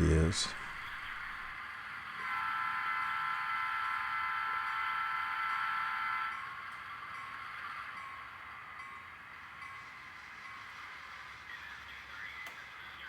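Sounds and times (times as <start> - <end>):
faint hiss of running train: 0.0 - 13.0.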